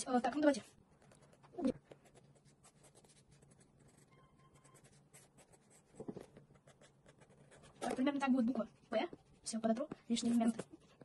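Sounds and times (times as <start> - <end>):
pencil scratching on paper: 0.1 - 9.0, 10.1 - 11.0.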